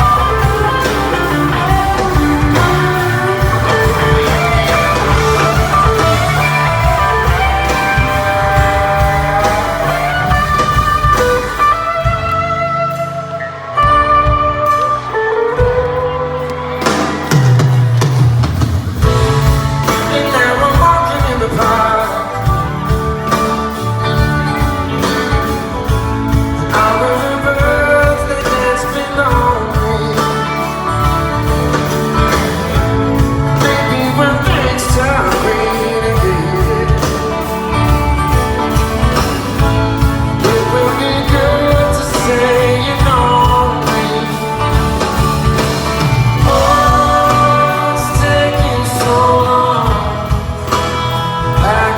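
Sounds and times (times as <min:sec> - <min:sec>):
person singing: 0:00.0 - 0:17.7, 0:19.0 - 0:51.9
rock band playing: 0:00.0 - 0:51.9.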